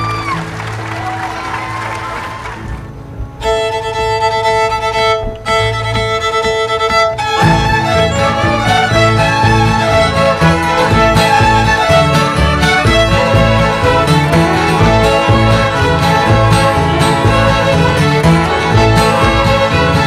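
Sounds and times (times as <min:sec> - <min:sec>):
acoustic guitar: 0:00.0 - 0:20.0
fiddles bowing long notes: 0:00.0 - 0:20.0
upright bass: 0:00.0 - 0:20.0
fast fiddle tune: 0:03.4 - 0:20.0.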